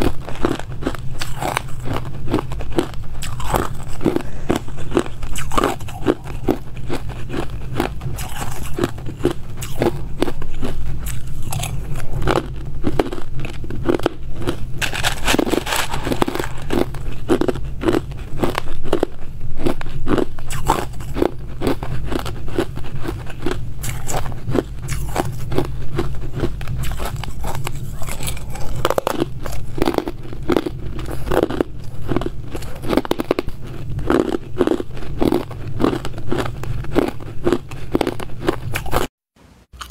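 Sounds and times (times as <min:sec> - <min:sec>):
ice cubes crunching: 0:00.0 - 0:39.1.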